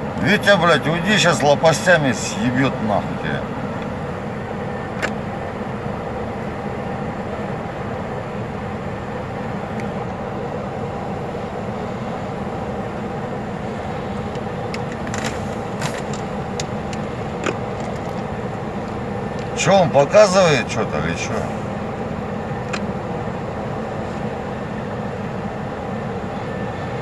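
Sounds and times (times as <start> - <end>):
helicopter engines and rotor drone: 0.0 - 27.0.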